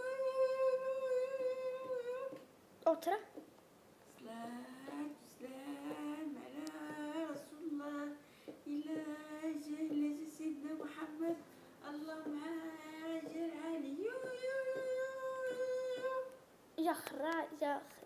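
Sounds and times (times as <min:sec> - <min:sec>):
woman singing unaccompanied: 0:00.0 - 0:02.5, 0:04.1 - 0:16.4.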